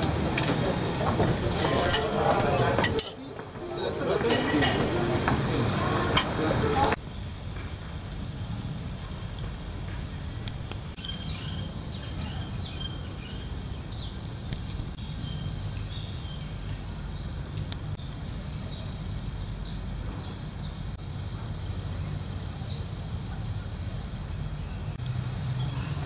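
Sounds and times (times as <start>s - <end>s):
birds chirping: 2.1s - 26.0s.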